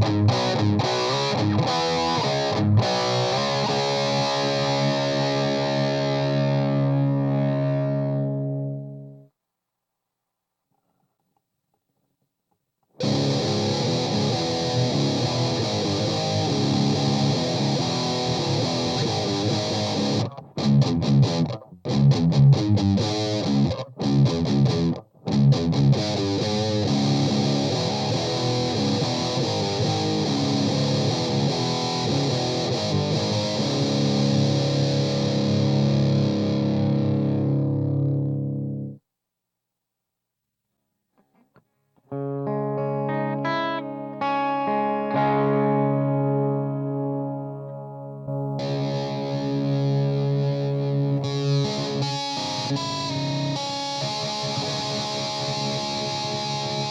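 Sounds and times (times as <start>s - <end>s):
distorted electric guitar: 0.0s - 9.3s, 13.0s - 39.0s, 41.3s - 56.9s.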